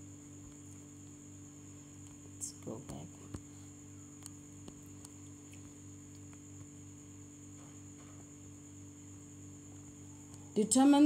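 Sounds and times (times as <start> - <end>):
electrical mains hum: 0.0 - 11.0
faint high whine: 0.0 - 11.0.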